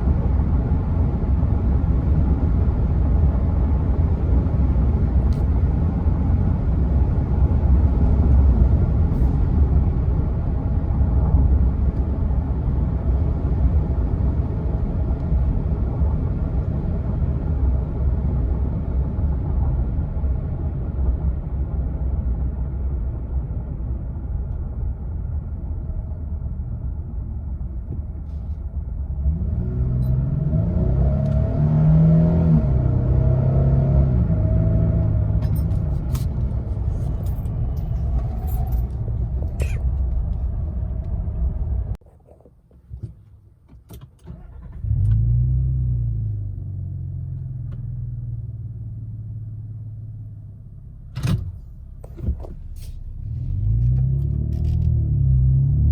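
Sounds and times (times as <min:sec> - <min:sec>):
car exhaust idling and revving: 0:00.0 - 0:42.4, 0:44.8 - 0:55.9.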